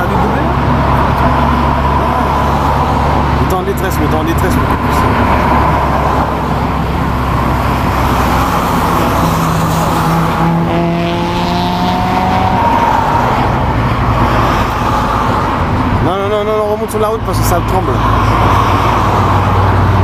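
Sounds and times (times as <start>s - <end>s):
car accelerating: 0.0s - 20.0s
highway traffic rumble: 0.0s - 20.0s.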